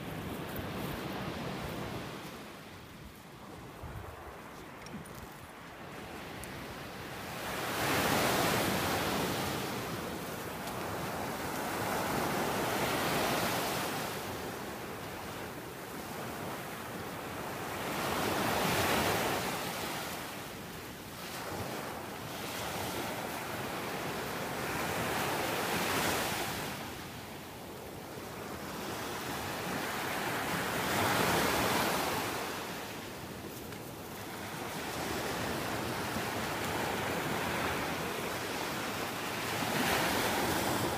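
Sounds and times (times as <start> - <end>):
small waves breaking on beach: 5.4 - 40.9.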